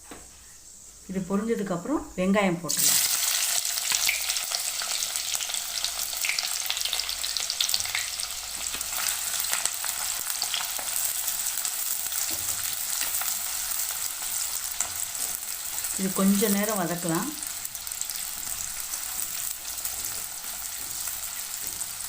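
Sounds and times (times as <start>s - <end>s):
onions sizzling in oil: 2.7s - 22.0s.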